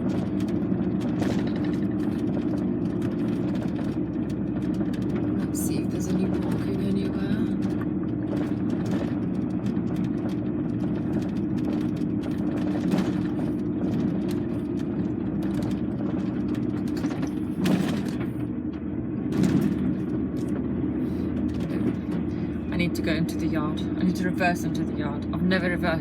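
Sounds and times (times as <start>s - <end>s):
lorry diesel engine running: 0.0s - 26.0s.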